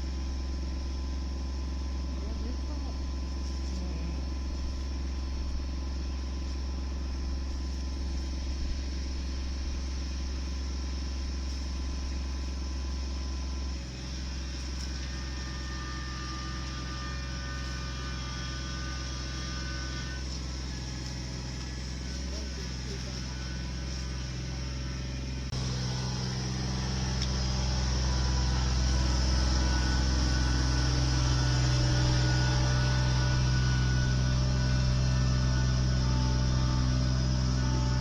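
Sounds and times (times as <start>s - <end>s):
machine engine humming: 0.0s - 38.0s.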